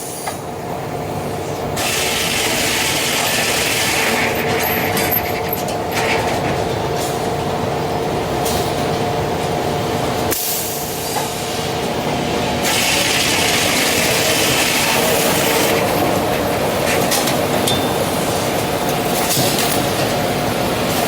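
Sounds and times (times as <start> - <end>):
sawmill machine hum and clatter: 0.0 - 21.0.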